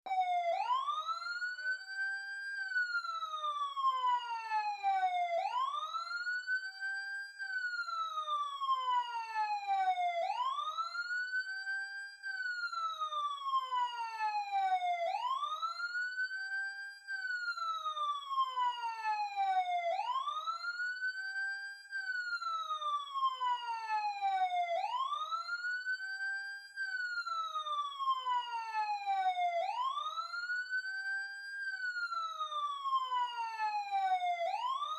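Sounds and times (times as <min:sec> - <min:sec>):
emergency siren wailing: 0:00.1 - 0:34.9.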